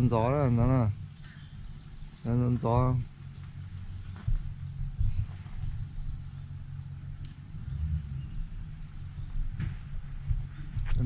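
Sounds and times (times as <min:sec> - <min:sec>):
crickets chirping: 0:00.0 - 0:11.0
low rumble: 0:00.0 - 0:11.0.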